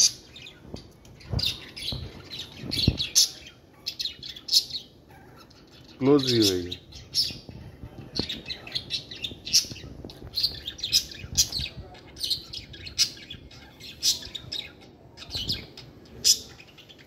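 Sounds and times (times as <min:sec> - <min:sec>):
parrots chirping: 0:00.0 - 0:17.0.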